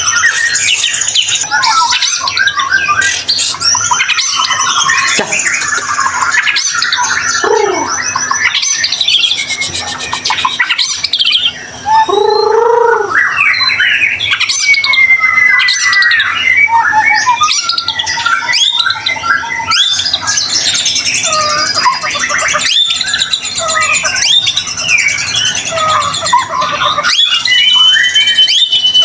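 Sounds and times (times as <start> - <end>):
songbird singing whistles and trills: 0.0 - 29.0.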